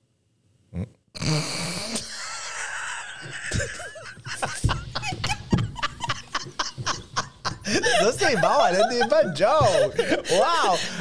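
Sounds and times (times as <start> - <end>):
people laughing hard: 2.0 - 11.0.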